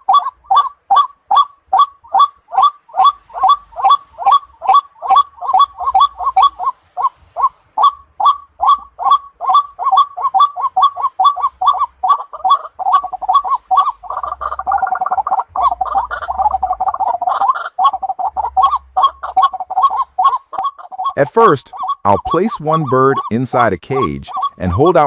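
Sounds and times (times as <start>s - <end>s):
waterhen calling harsh notes: 0.0s - 25.0s.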